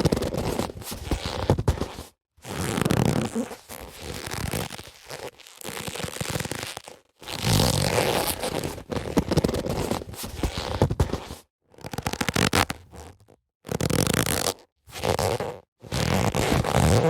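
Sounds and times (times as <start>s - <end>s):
boxing gloves rubbing: 0.1s - 17.0s.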